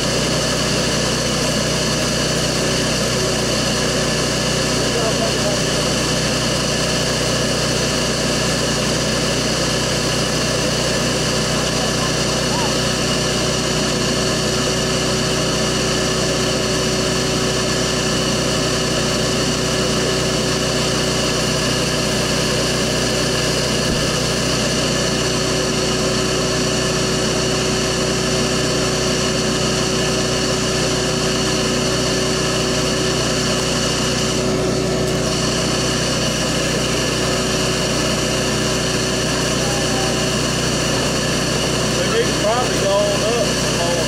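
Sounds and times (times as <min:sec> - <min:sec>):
vacuum motor humming: 0:00.0 - 0:44.0.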